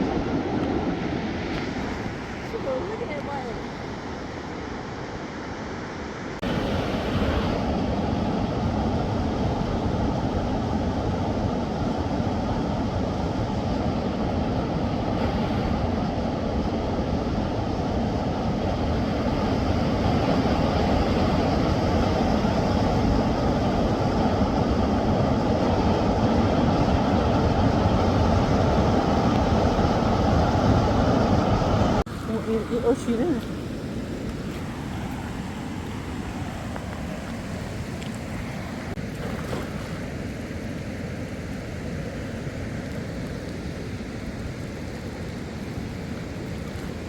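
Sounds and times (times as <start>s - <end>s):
mountain river roaring: 0.0s - 47.0s.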